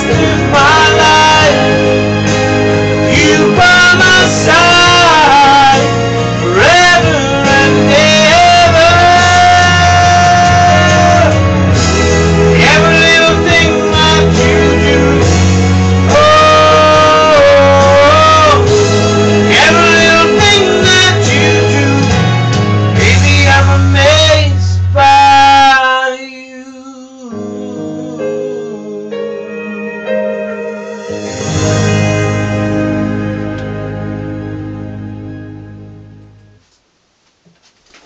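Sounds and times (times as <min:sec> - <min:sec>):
steady bass: 0:00.0 - 0:25.6, 0:31.1 - 0:36.6
guitar: 0:00.0 - 0:25.8, 0:27.3 - 0:36.7
person singing a ballad: 0:00.0 - 0:33.9.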